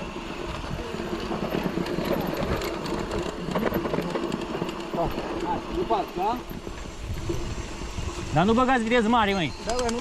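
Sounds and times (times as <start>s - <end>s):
bikes rattling over rough track: 0.0s - 10.0s.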